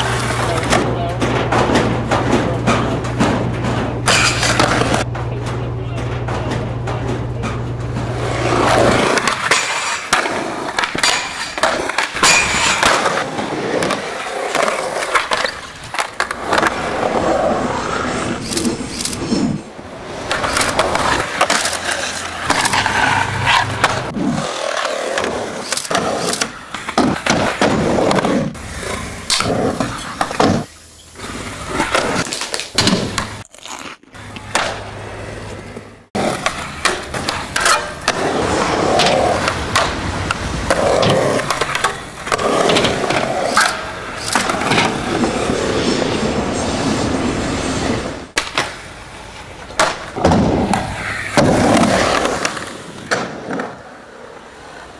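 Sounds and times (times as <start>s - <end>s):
skateboard grinding ledge and rail: 0.0s - 5.1s, 6.2s - 54.9s
skateboard clacks: 0.0s - 19.0s, 19.8s - 33.4s, 34.2s - 45.4s, 48.3s - 54.9s
skateboard wheels rolling on concrete: 0.0s - 54.9s.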